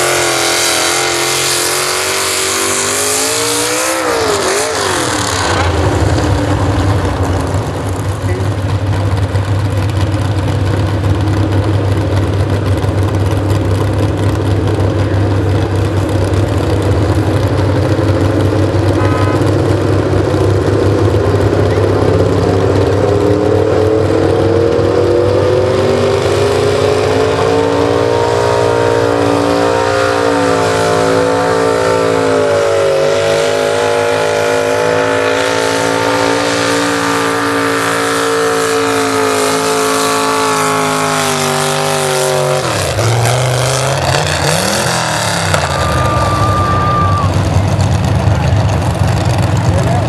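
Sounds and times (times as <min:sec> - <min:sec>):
truck engine at full throttle: 0:00.0 - 0:50.0.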